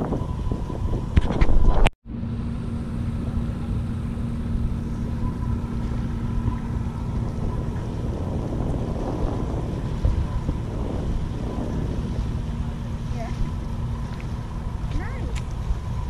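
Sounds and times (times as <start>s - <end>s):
steady low hum: 0.0s - 16.0s
wind rumbling on microphone: 0.0s - 16.0s.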